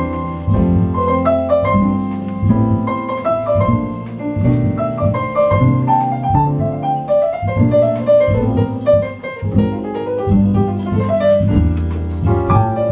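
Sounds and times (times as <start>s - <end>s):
jazz piano: 0.0s - 12.9s.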